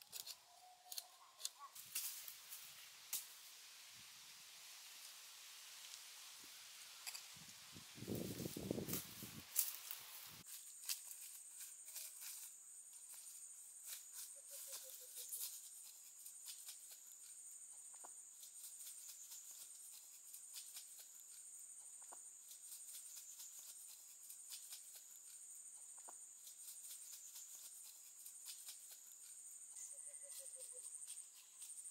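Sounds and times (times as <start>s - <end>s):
insect drone: 0.0s - 31.9s.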